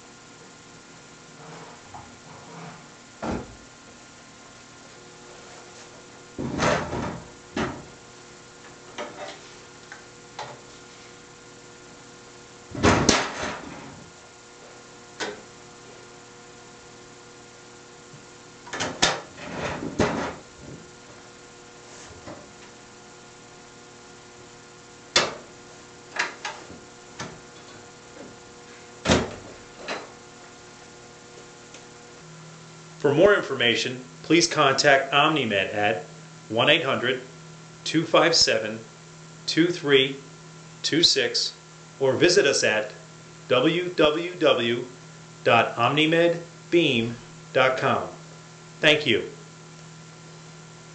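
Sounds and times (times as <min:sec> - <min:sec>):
steady hum: 0:00.0 - 0:50.9.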